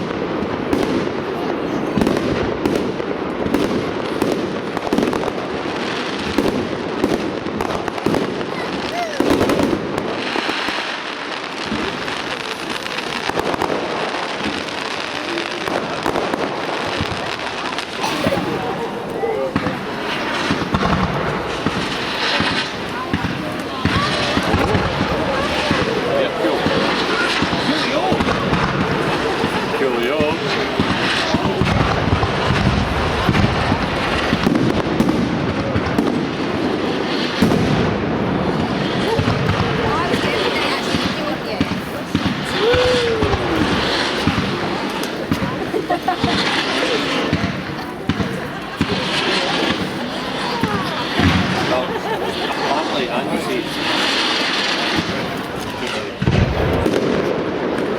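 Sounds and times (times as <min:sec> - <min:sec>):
fireworks crackling: 0:00.0 - 0:57.9.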